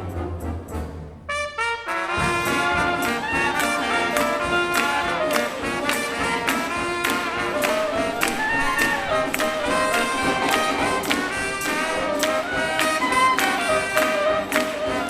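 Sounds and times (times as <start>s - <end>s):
jazz big band playing: 0.0s - 15.0s
short brass notes: 0.0s - 15.0s.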